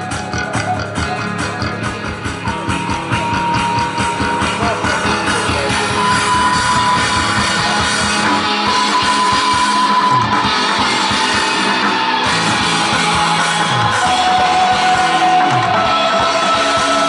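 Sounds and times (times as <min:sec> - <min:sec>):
held high guitar note: 0:00.0 - 0:17.0
rock band playing: 0:00.0 - 0:17.0.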